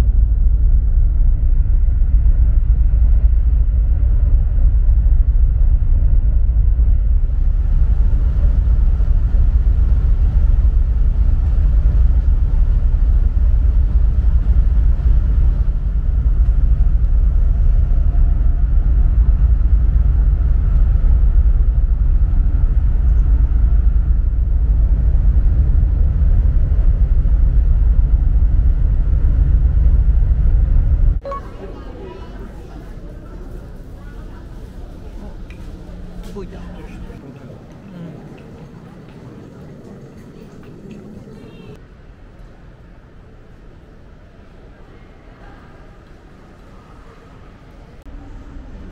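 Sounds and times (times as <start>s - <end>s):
ferry low rumble: 0.0s - 48.9s.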